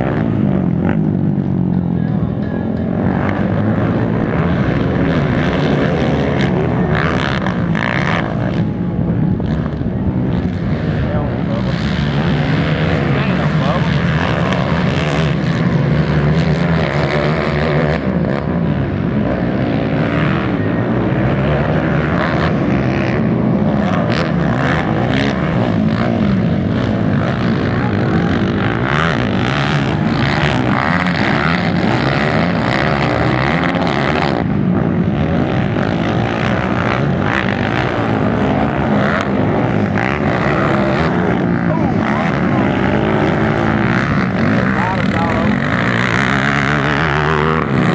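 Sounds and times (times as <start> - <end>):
quad bike engines revving: 0.0 - 47.9.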